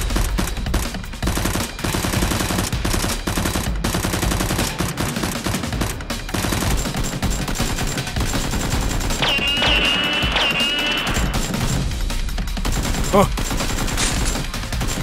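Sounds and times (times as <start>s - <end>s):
rapid automatic gunfire: 0.0s - 15.0s.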